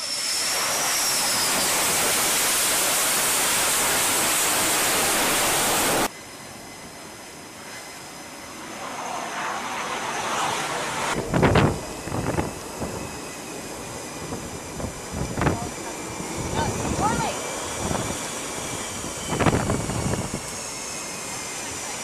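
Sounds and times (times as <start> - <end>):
high turbine whine: 0.0 - 22.0
jet engines roaring: 0.0 - 22.0.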